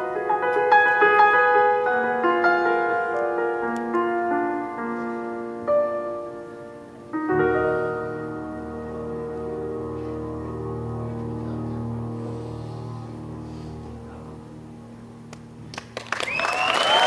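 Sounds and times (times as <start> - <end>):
soft slow piano: 0.0 - 17.0.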